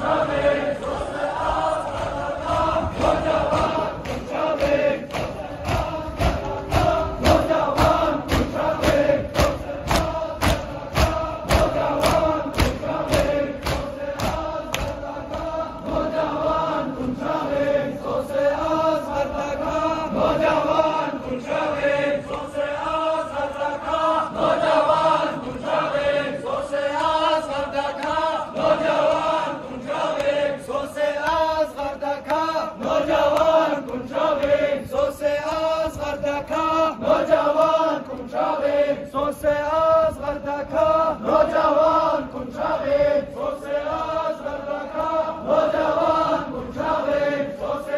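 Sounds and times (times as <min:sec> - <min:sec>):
crowd of men chanting: 0:00.0 - 0:47.9
rhythmic chest slapping: 0:00.0 - 0:47.9.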